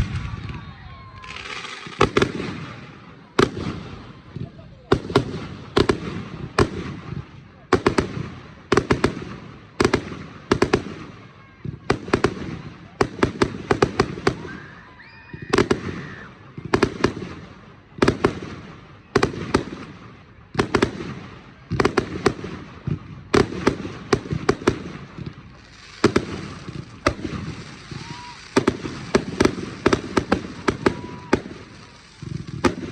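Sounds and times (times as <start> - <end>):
fireworks bangs: 0.0 - 32.9
fireworks crackling: 0.0 - 32.9
fireworks rumble: 0.0 - 32.9.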